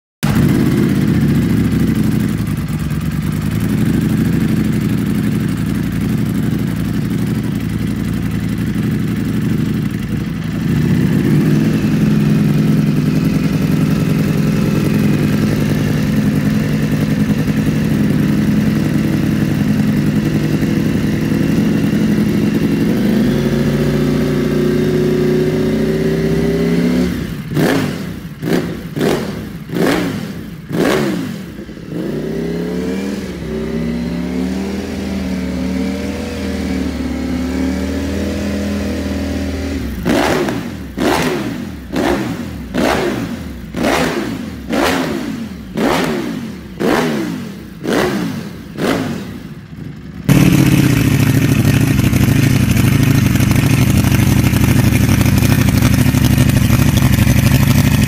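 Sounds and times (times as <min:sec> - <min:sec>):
motorcycle engine idling and revving: 0:00.2 - 0:58.0.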